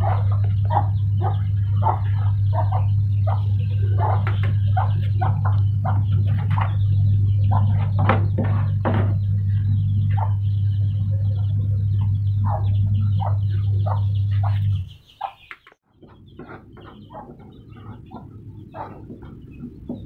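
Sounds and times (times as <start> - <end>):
steady low hum: 0.0 - 15.2, 15.8 - 20.0
birds calling: 0.0 - 20.0.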